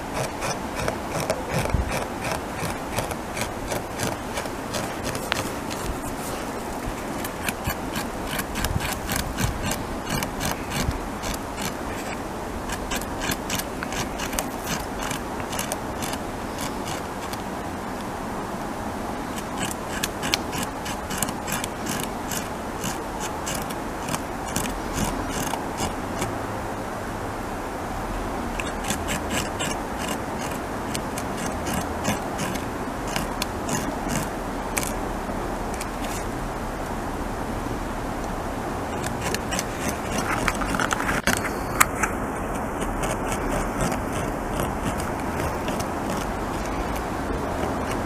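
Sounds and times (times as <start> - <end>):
beaver gnawing wood: 0.0 - 18.3, 19.0 - 26.4, 28.5 - 35.1, 35.7 - 36.3, 38.2 - 48.0.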